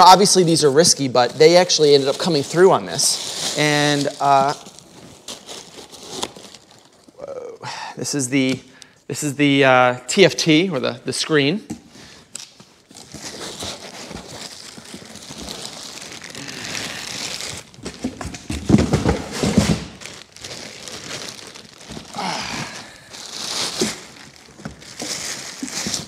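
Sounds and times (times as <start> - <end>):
plastic wrap crinkling: 0.0 - 7.4, 12.0 - 26.0.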